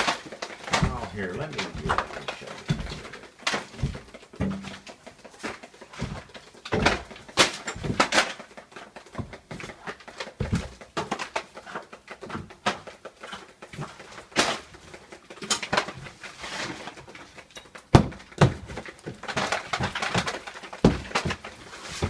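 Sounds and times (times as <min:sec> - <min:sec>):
scraping: 0:00.0 - 0:17.8
knocks and thumps: 0:00.0 - 0:22.0.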